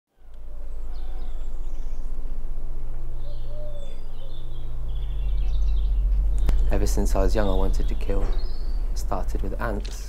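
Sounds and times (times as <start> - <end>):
birds chirping: 0.1 - 10.0
low steady rumble: 0.1 - 10.0.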